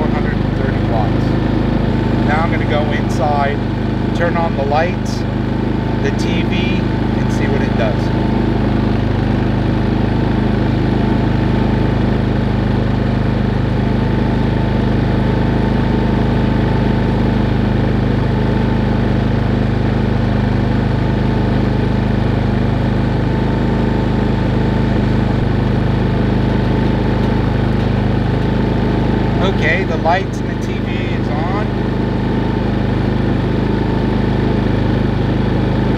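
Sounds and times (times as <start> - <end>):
generator engine running steadily: 0.0 - 35.9.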